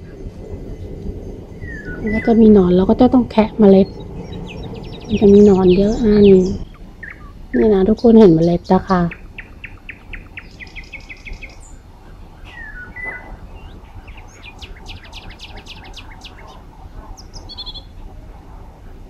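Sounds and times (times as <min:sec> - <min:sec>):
bird trill: 0:00.0 - 0:18.0
low rumble: 0:00.0 - 0:19.0
songbirds chirping: 0:00.0 - 0:19.0.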